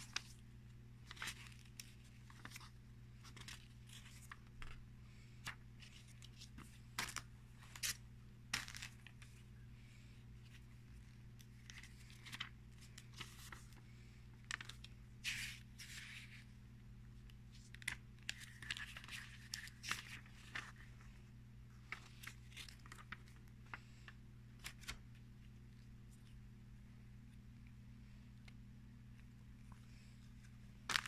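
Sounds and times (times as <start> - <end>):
paper pages rustling: 0.0 - 9.5, 10.4 - 16.5, 17.2 - 26.4, 29.6 - 31.0.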